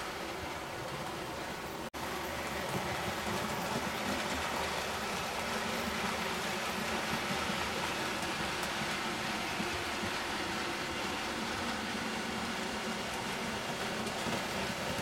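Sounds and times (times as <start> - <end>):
model train wheels rumbling: 0.0 - 15.0.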